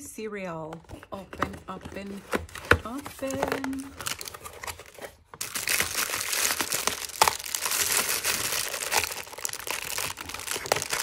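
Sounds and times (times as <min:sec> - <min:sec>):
plastic wrap crinkling: 0:00.9 - 0:11.0.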